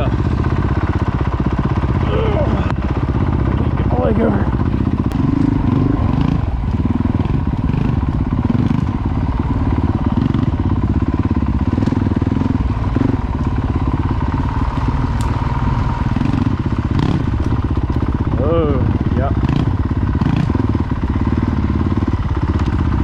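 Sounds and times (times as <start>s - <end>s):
motorcycle engine running at low speed: 0.0s - 23.0s.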